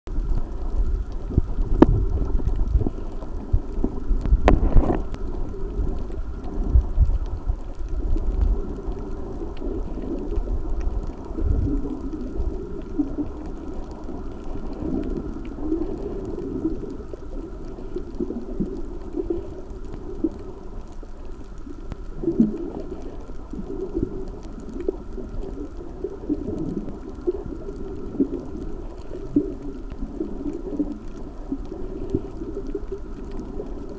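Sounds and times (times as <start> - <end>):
muffled underwater rumble: 0.1 - 33.9.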